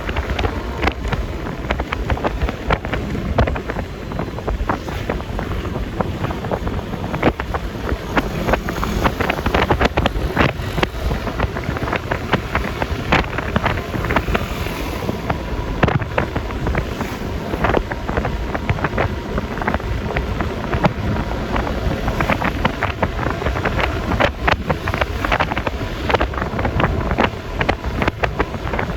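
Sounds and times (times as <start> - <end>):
road noise: 0.0 - 28.9
scooter engine running: 0.0 - 28.9
wind buffeting microphone: 0.0 - 28.9.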